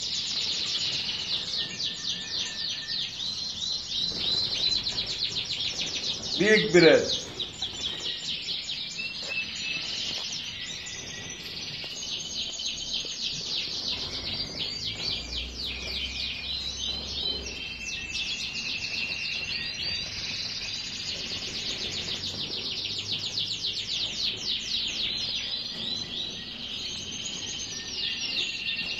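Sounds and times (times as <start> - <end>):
songbirds trilling and chirping: 0.0 - 28.9.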